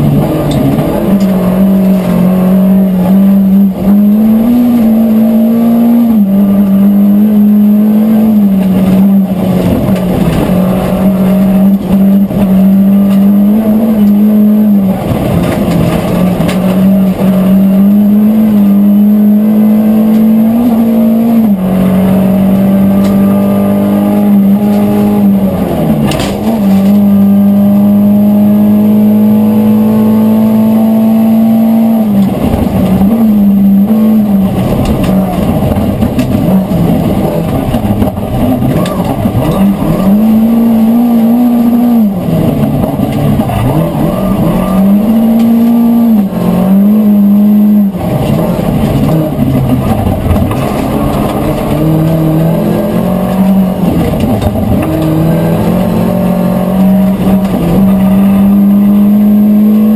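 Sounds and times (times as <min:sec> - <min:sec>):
rally car engine at high revs: 0:00.0 - 0:59.9.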